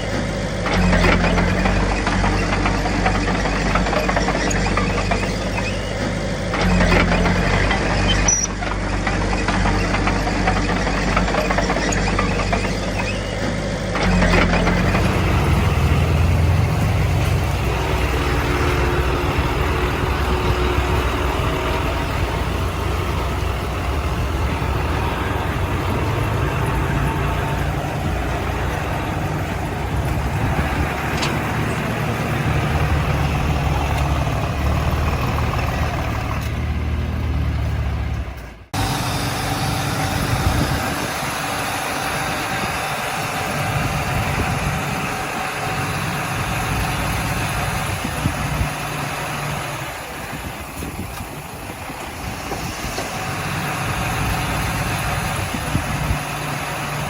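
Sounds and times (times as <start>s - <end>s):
diesel machinery engine rumbling: 0.0s - 57.0s.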